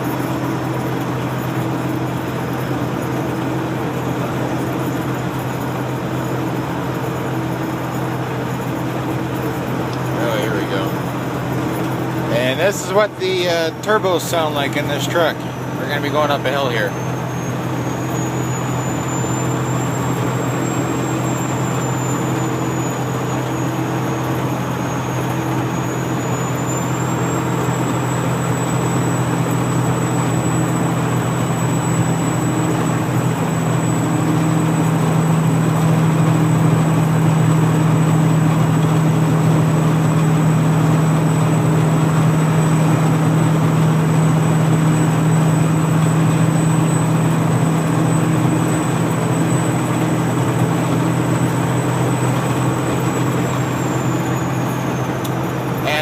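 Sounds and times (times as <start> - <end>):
truck engine pulling under load: 0.0 - 56.0
turbocharger whistling: 0.0 - 56.0.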